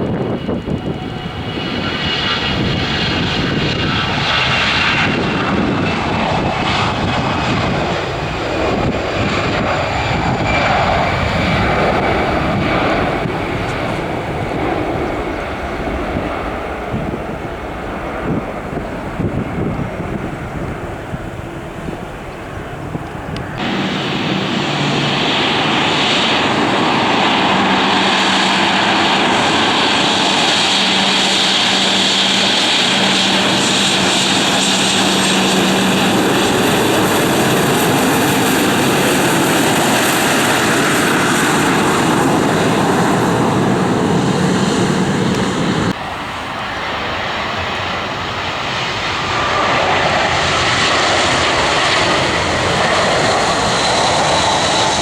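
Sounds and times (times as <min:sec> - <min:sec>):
airliner engines roaring: 0:00.0 - 0:55.0.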